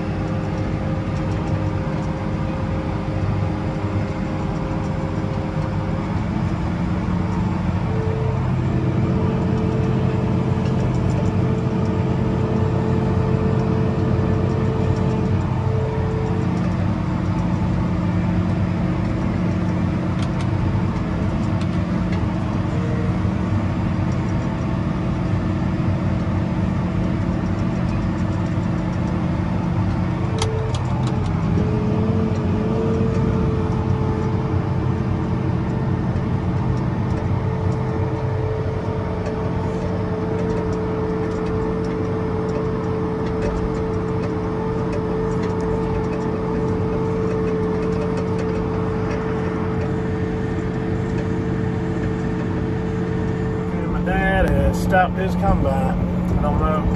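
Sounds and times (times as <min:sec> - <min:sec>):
tractor engine drone: 0:00.0 - 0:56.9.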